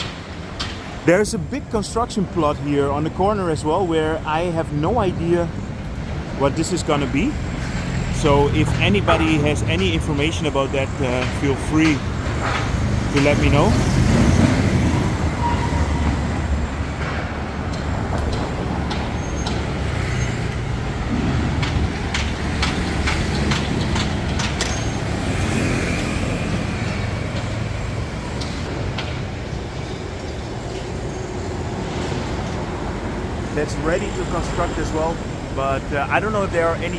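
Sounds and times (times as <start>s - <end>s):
traffic rumble: 0.0s - 36.9s.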